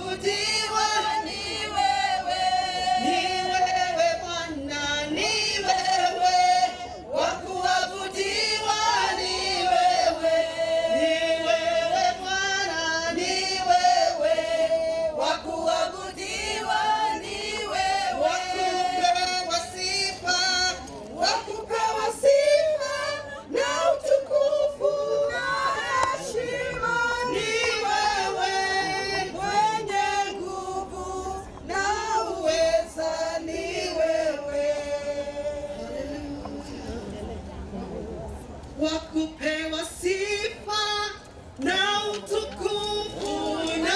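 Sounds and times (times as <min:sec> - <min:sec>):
group of voices singing: 0:00.0 - 0:37.4, 0:38.8 - 0:43.9.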